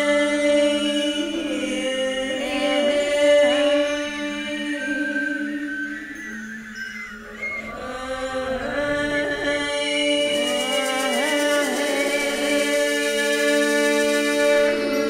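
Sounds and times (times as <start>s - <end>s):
woman's wordless chanting: 0.0s - 5.7s, 7.3s - 15.0s
high shimmering layer: 0.0s - 15.0s.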